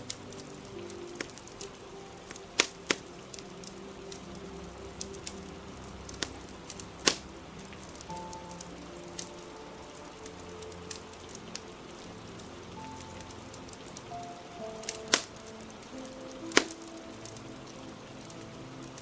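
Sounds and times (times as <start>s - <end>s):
fire crackling and popping: 0.0s - 19.0s
rain hissing: 0.0s - 19.0s
soft music with held notes: 0.0s - 19.0s.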